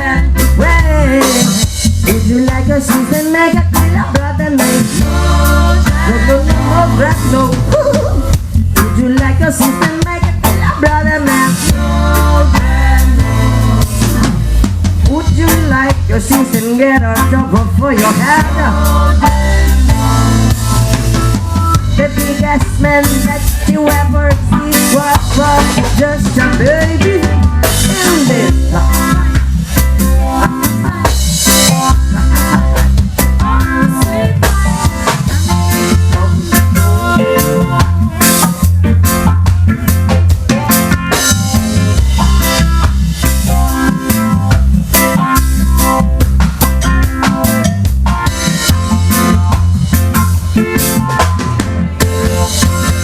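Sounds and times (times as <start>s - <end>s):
live reggae band: 0.0s - 53.0s.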